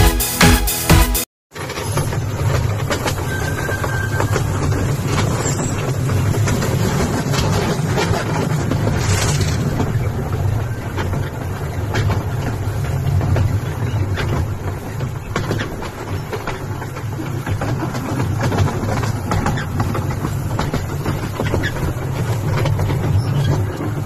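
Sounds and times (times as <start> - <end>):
track clacks: 1.6 - 24.0
train wheels rumbling: 1.6 - 24.0.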